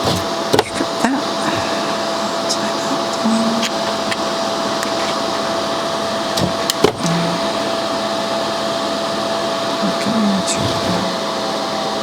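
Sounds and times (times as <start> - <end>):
electric blower motor whirring: 0.0 - 12.0.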